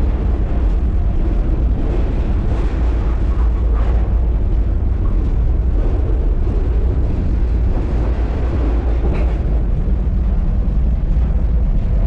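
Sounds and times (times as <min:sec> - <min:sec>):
freight train rumbling: 0:00.0 - 0:12.0
wind buffeting microphone: 0:00.0 - 0:12.0.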